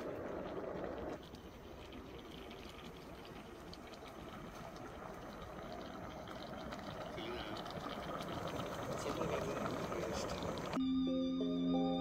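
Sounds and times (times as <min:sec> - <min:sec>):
stew bubbling: 0:00.0 - 0:10.8.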